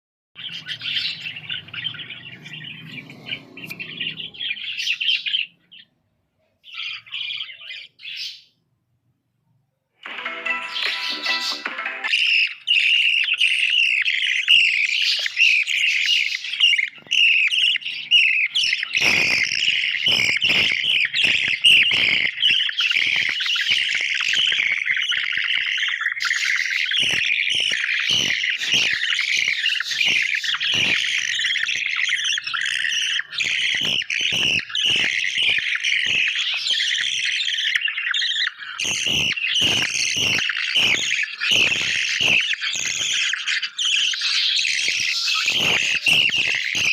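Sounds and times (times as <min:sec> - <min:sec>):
budgerigars chirping: 0:00.4 - 0:05.9, 0:06.6 - 0:08.6, 0:10.6 - 0:46.9.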